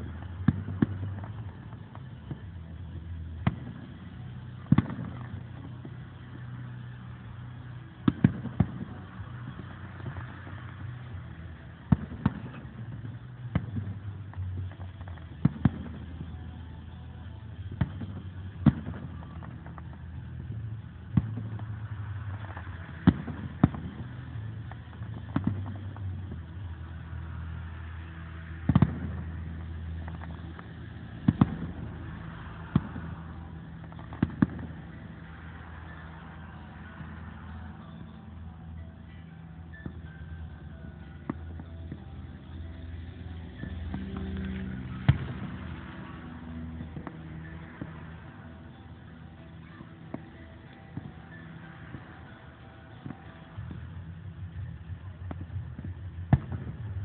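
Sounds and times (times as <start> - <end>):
cars passing: 0.0 - 57.0
fireworks bursting with bangs: 0.0 - 57.0.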